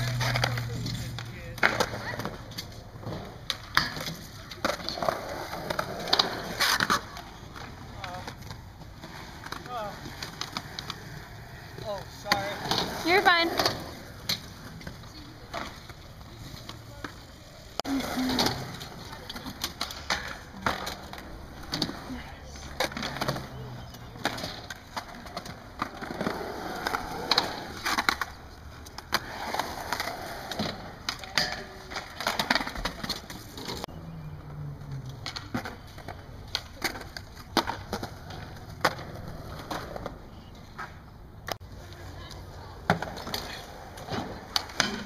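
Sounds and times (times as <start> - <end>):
skateboard clacking on concrete: 0.0 - 33.9, 35.0 - 45.0
skateboard wheels rolling: 0.0 - 45.0.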